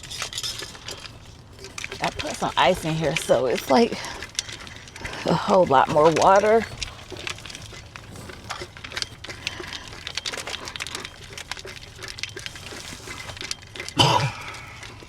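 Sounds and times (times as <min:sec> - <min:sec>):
ice cubes rattling in plastic bottle: 0:00.0 - 0:15.0.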